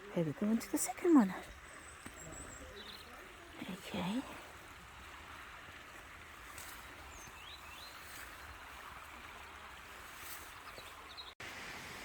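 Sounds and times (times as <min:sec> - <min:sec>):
distant waterfall rushing: 0:02.2 - 0:12.0.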